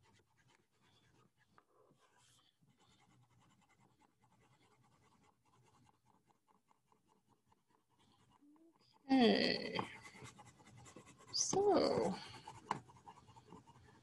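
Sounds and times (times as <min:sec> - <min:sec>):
crayon scratching on paper: 0:00.0 - 0:14.0.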